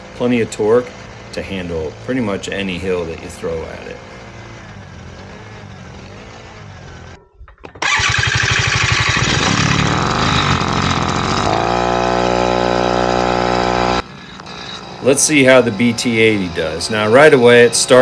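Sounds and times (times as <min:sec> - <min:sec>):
four-stroke bicycle engine running: 0:00.0 - 0:18.0
loud two-stroke bicycle engine: 0:00.0 - 0:18.0.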